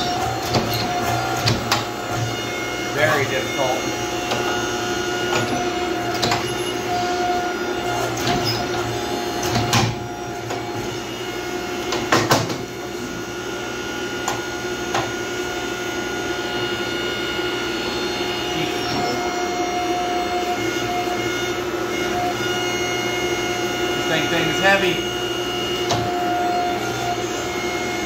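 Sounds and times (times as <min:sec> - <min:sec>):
hydraulic press motor humming: 0:00.0 - 0:28.0.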